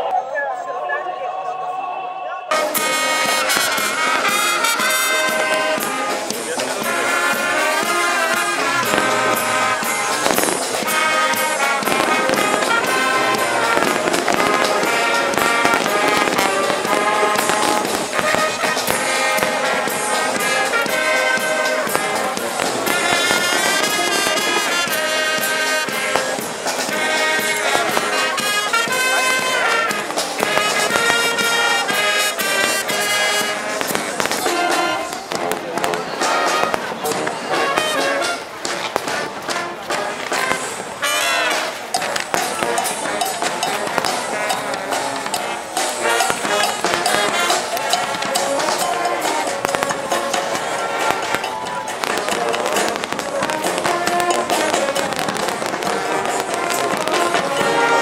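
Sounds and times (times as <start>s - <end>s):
brass band music: 2.4s - 58.0s
fireworks bursting: 2.5s - 58.0s.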